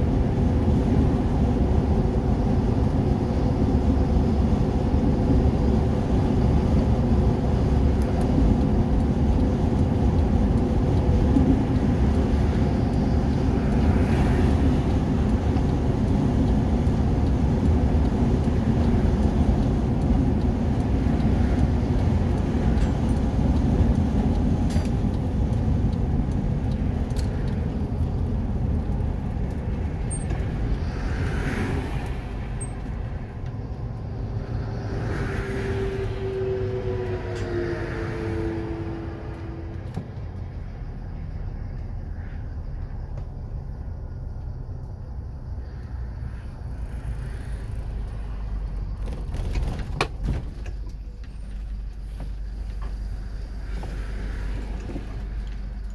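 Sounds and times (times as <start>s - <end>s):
vehicle cabin road noise: 0.0s - 55.9s.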